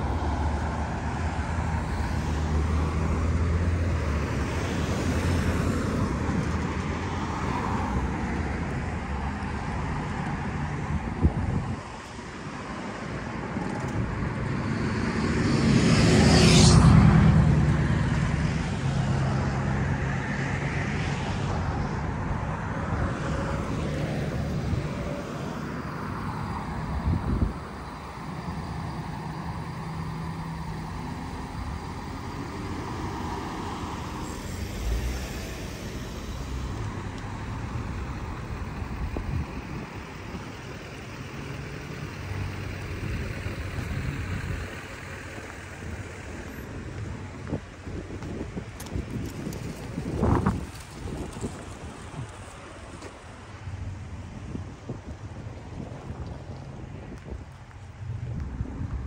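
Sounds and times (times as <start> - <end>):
car passing close: 0.0 - 59.0
traffic engines running: 0.0 - 59.0.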